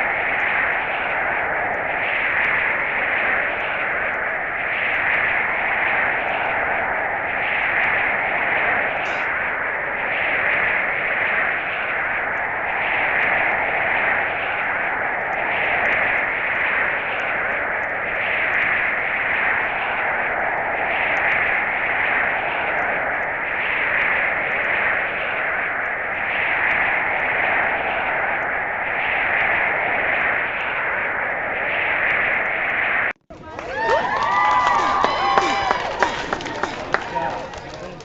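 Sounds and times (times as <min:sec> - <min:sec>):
wind rushing hiss: 0:00.0 - 0:38.0.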